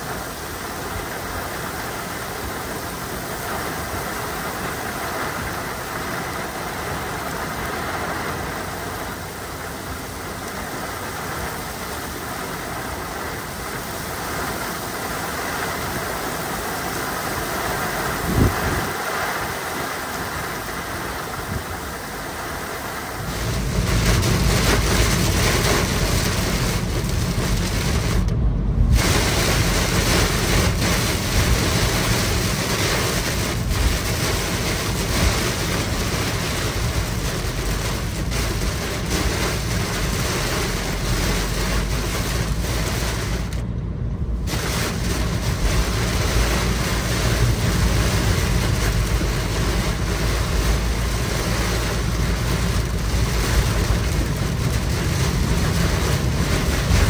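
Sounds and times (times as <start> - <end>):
car driving through rain: 0.0 - 57.0
heavy rain falling: 0.0 - 57.0.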